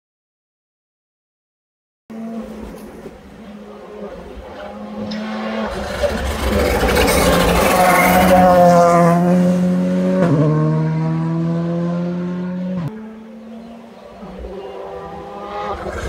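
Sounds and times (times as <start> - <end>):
rally car engine at high revs: 2.1 - 16.0.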